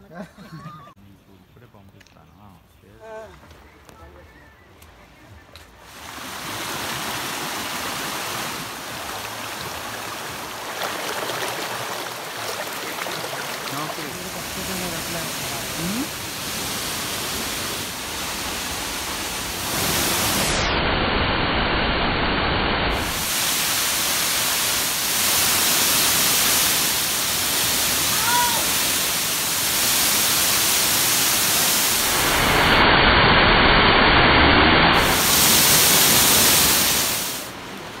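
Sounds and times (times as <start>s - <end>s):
waterfall rushing: 5.8s - 38.0s.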